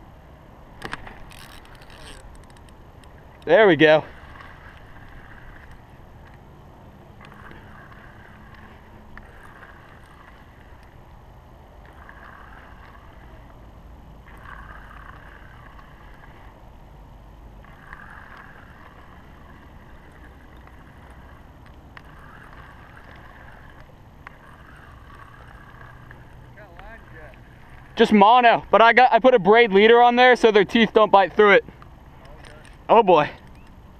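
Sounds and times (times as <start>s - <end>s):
water lapping against kayak hull: 0.8s - 33.6s
fishing reel whirring: 0.8s - 33.9s.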